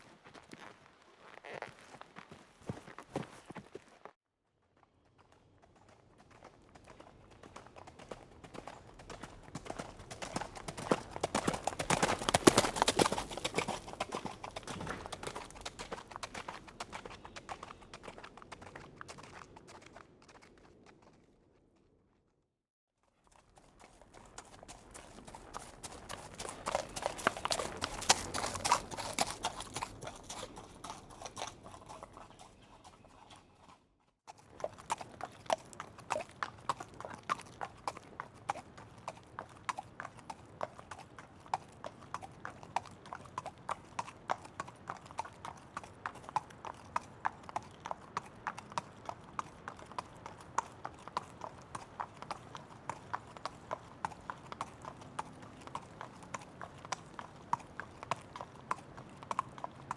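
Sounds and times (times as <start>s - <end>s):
horse hooves clip-clopping: 0.0s - 22.2s, 23.0s - 59.9s.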